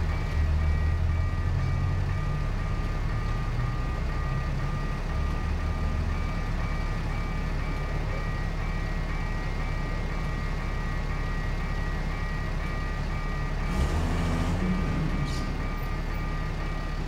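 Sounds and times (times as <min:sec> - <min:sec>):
level crossing signal beeping: 0:00.0 - 0:17.0
low engine rumble: 0:00.0 - 0:17.0.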